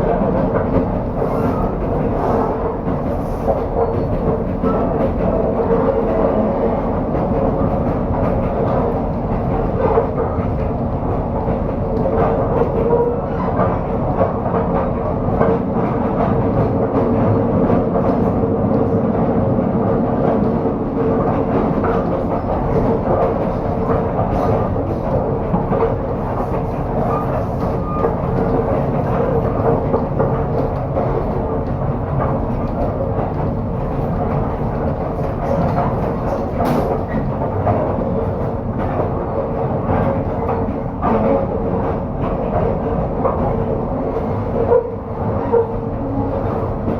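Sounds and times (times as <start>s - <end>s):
train rumbling on rails: 0.0s - 46.9s
train wheels knocking: 0.0s - 46.9s.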